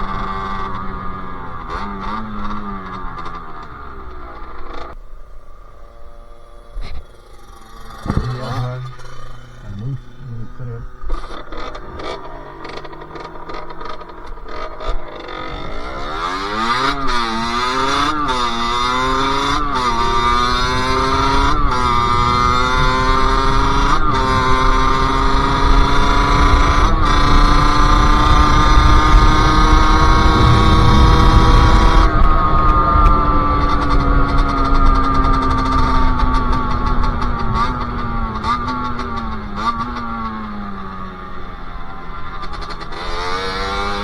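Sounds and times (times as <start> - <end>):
two-stroke engine accelerating: 0.0 - 44.0.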